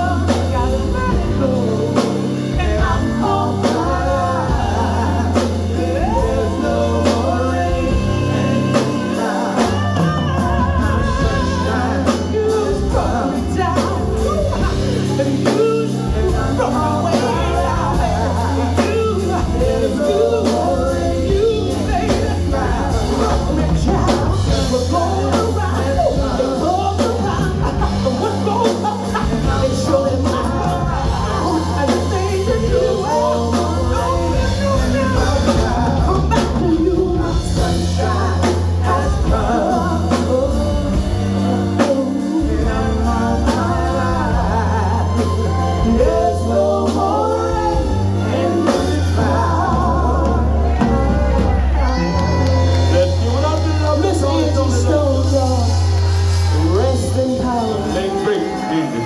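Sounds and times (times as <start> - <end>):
bass: 0.0 - 59.0
drums: 0.0 - 59.0
live soul band playing: 0.0 - 59.0
person singing: 0.0 - 59.0.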